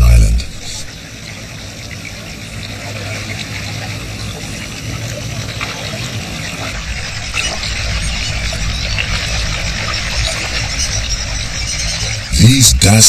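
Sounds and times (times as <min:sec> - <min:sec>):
water trickling and lapping: 0:00.5 - 0:12.3.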